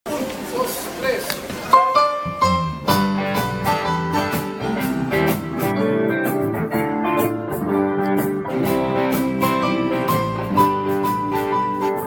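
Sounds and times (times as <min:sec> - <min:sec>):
strummed acoustic guitars: 0:01.7 - 0:12.0.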